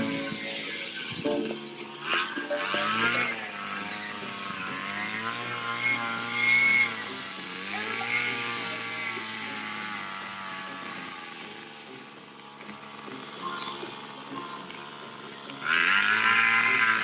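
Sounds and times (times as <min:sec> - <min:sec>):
engine running steadily: 0:03.1 - 0:17.0.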